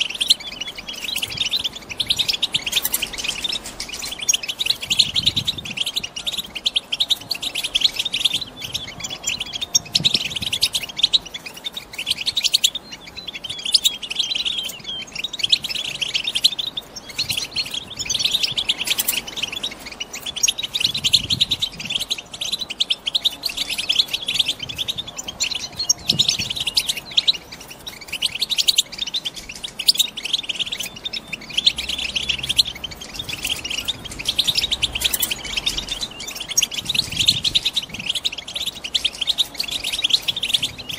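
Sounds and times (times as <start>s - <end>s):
goldfinches twittering: 0.0s - 40.9s.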